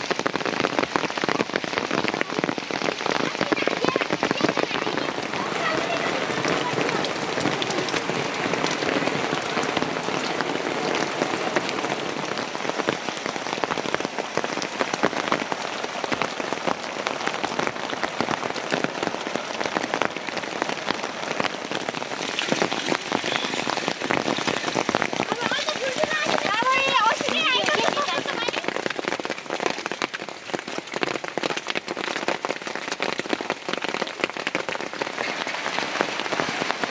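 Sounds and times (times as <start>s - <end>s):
heavy rain on hard surface: 0.0s - 36.9s.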